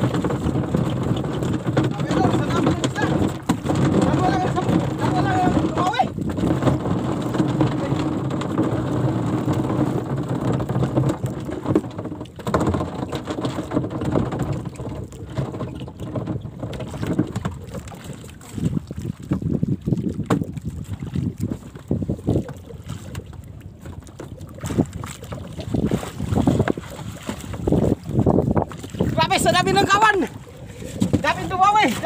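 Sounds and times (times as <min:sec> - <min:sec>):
water slapping against hull: 0:00.0 - 0:32.0
wind buffeting microphone: 0:00.0 - 0:32.0.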